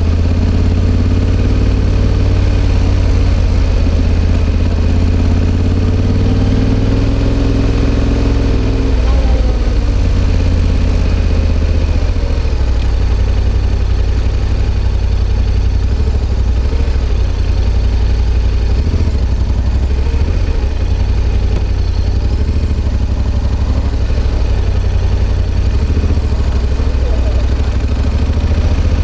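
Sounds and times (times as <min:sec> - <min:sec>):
motorcycle engine at low revs: 0:00.0 - 0:29.0.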